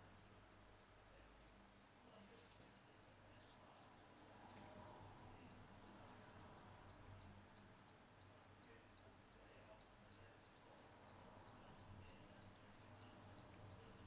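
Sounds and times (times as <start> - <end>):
faint high ticking: 0.0 - 14.0
steady low hum: 0.0 - 14.0.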